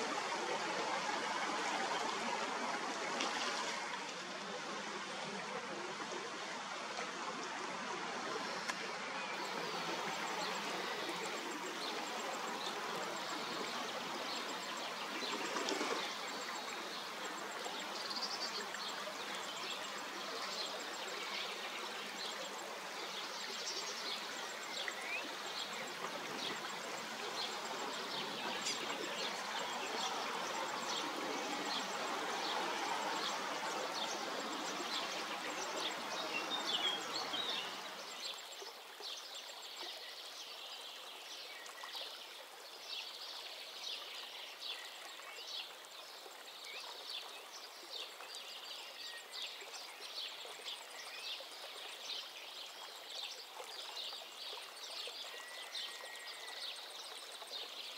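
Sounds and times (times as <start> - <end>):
stream water running: 0.0 - 57.9.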